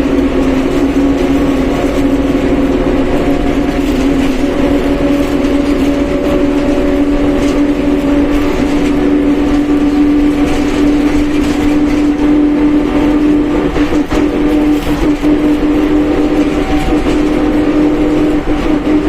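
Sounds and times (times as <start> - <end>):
bus differential whine: 0.0 - 19.0
bus engine and road rumble: 0.0 - 19.0.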